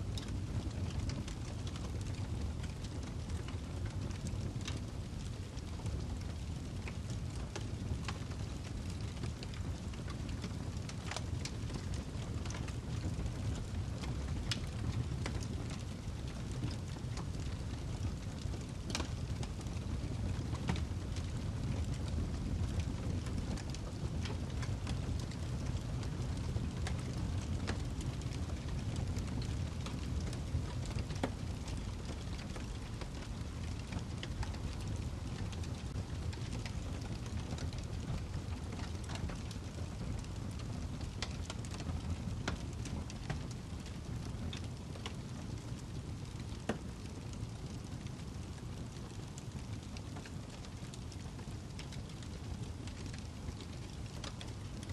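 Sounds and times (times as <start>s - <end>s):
fire rumbling in fireplace: 0.0s - 54.9s
log crackling and popping: 0.0s - 54.9s.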